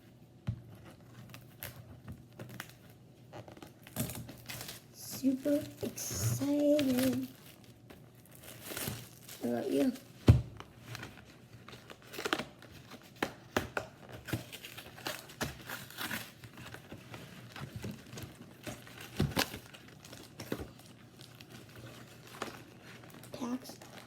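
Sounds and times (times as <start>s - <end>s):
plastic wrapping crinkling and tearing: 0.9s - 24.0s.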